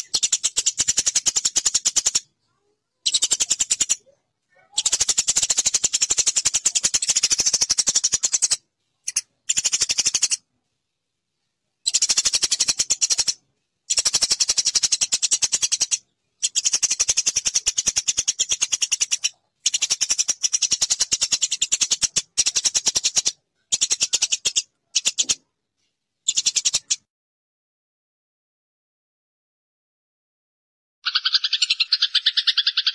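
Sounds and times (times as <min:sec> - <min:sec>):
sparrow chirping: 0:00.0 - 0:10.4, 0:11.8 - 0:25.4, 0:26.2 - 0:27.0, 0:31.0 - 0:32.9.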